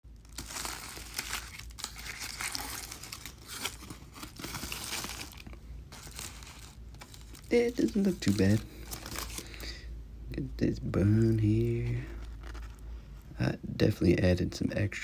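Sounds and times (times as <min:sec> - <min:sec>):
sandwich wrapper crinkling and tearing: 0:00.1 - 0:09.9, 0:11.1 - 0:13.3.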